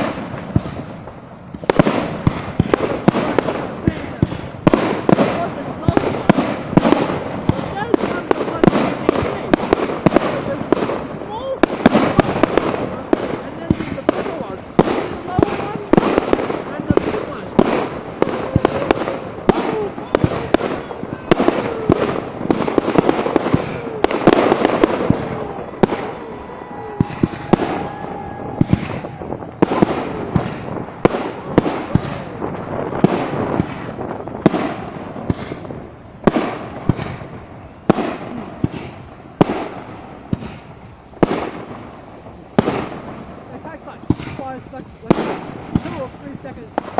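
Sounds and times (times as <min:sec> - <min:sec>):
fireworks banging and crackling: 0:00.0 - 0:46.9.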